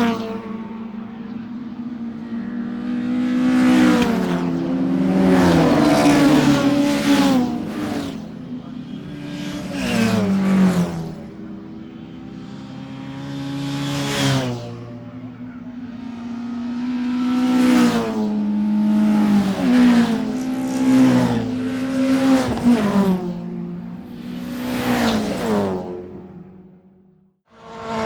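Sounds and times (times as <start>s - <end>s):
racing car engines passing: 0.0s - 26.8s, 27.5s - 28.0s.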